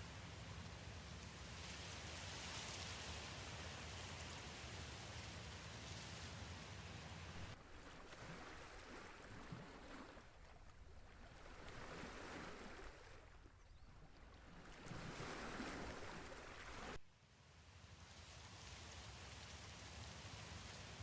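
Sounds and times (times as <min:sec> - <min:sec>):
water noise: 0:00.0 - 0:17.0
faint wind: 0:00.0 - 0:21.0.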